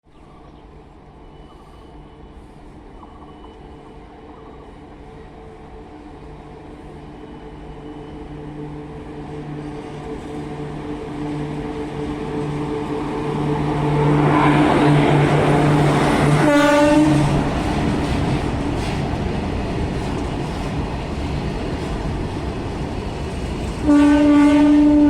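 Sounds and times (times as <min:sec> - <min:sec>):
electric locomotive hum: 0:00.1 - 0:25.0.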